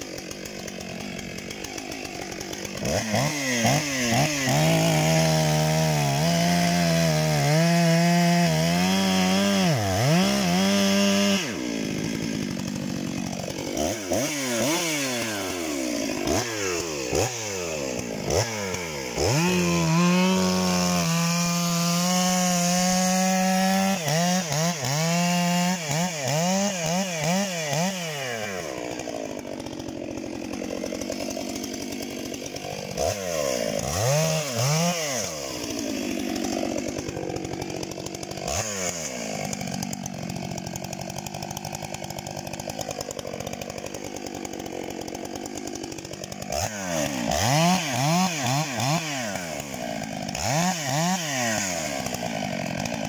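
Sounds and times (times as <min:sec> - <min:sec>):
chainsaw cutting into tree trunk: 0:00.0 - 0:53.0
chainsaw revving: 0:00.0 - 0:53.0.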